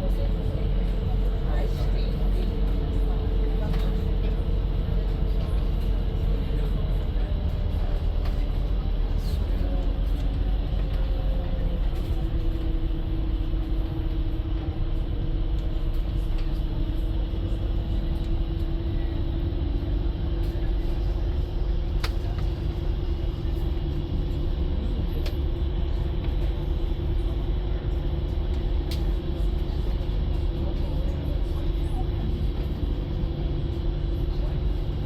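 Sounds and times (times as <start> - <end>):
ferry engines rumbling: 0.0 - 35.0.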